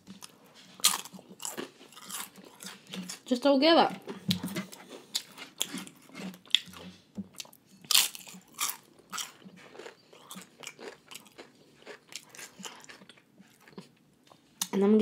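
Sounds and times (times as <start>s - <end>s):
chewing crunchy fried chips: 0.0s - 3.3s, 4.0s - 14.7s.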